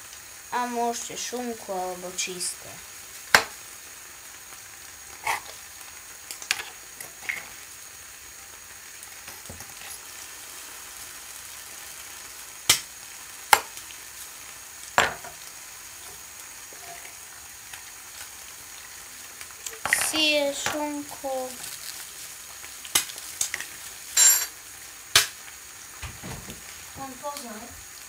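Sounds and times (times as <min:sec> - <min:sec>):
egg sizzling in a pan: 0:00.0 - 0:28.0.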